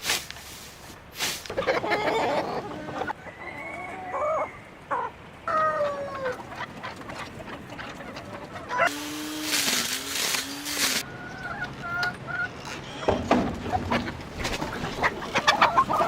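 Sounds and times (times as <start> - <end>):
chickens clucking: 1.2 - 9.4, 10.5 - 16.0.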